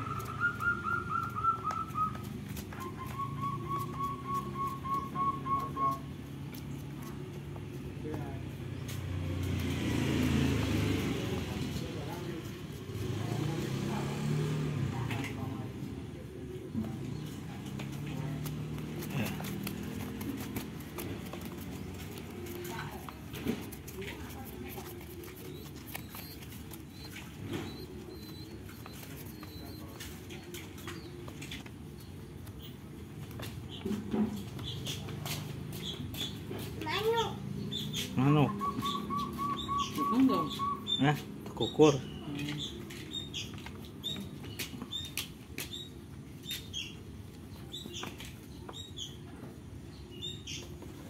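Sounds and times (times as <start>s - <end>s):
dove squeaky peeps: 0.0s - 6.9s, 16.5s - 51.0s.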